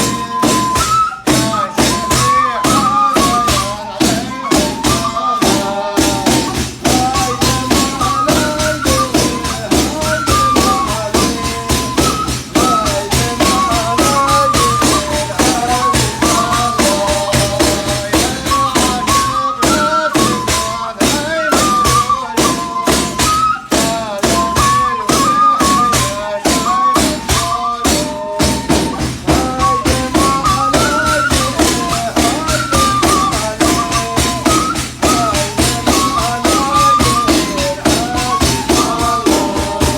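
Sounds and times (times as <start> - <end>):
frame drums beaten fast: 0.0 - 39.9
wavering flute melody: 0.0 - 39.9.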